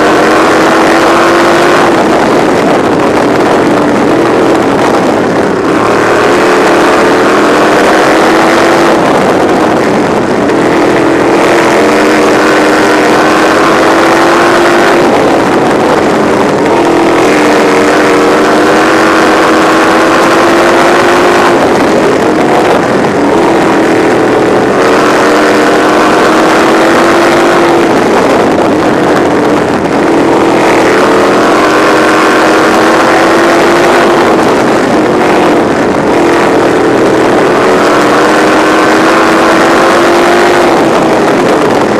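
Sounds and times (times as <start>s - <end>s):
racing car engine revving: 0.0s - 41.9s.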